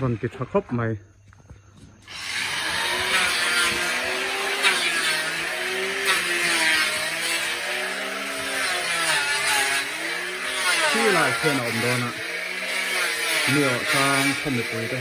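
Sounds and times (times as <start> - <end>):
electric saw cutting wood: 2.0 - 15.0.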